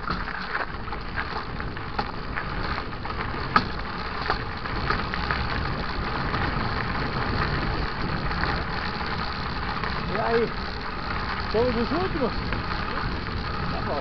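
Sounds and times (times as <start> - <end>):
bike clicks and rattles: 0.0 - 14.0
bike tyre rumble: 0.0 - 14.0.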